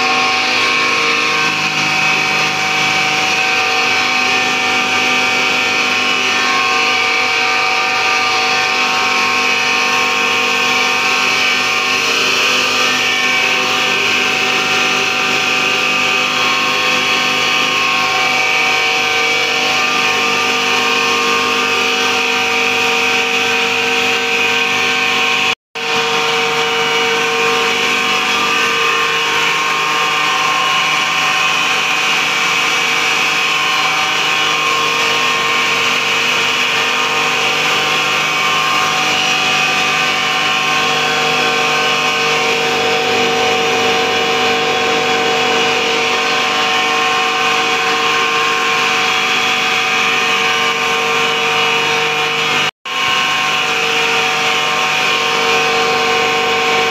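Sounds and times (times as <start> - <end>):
grain mill whining: 0.0 - 56.9
steady machine hum: 0.0 - 56.9.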